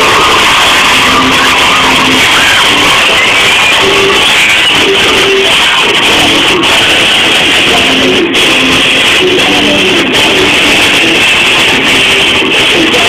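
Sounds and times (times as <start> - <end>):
loud guitar music: 0.0 - 13.0.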